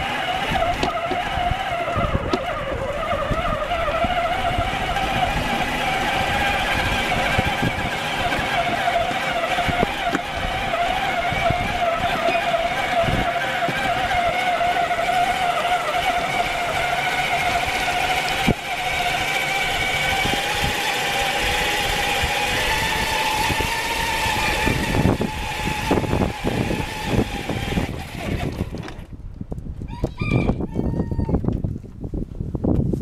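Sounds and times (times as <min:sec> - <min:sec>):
diesel locomotive engine whine: 0:00.0 - 0:29.1
wheels clacking on track: 0:00.0 - 0:29.1.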